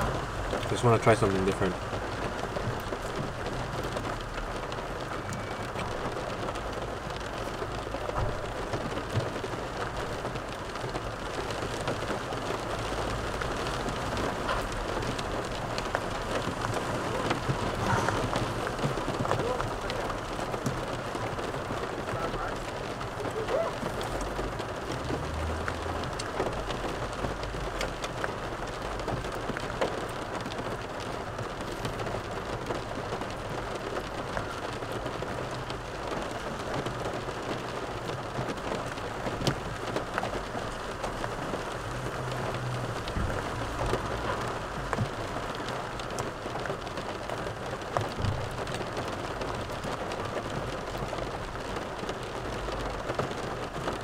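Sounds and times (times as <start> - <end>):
rain falling on a car: 0.0 - 54.0.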